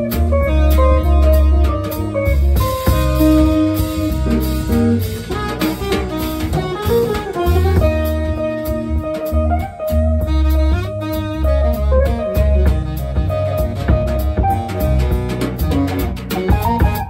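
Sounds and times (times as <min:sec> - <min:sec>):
drum kit hits: 0:00.0 - 0:17.0
electric bass: 0:00.0 - 0:17.0
electric guitar: 0:00.0 - 0:17.0
jazz band playing: 0:00.0 - 0:17.0
saxophone: 0:00.0 - 0:17.0.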